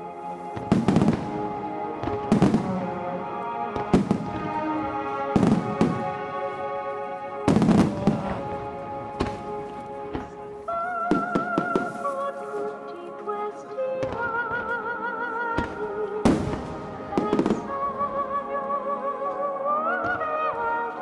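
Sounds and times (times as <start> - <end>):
music with sustained notes: 0.0 - 21.0
fireworks bursting with crackle: 0.2 - 6.5, 7.5 - 18.5.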